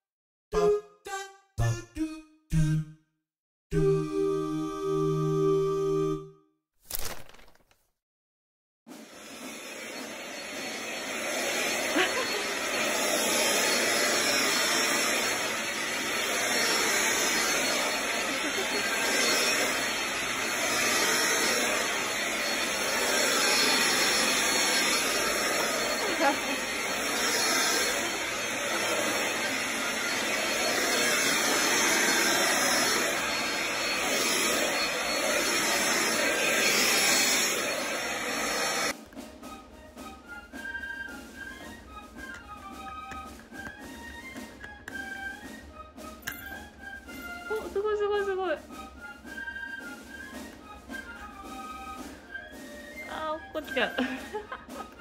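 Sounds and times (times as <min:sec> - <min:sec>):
stick vacuum cleaner running: 0:08.9 - 0:55.0.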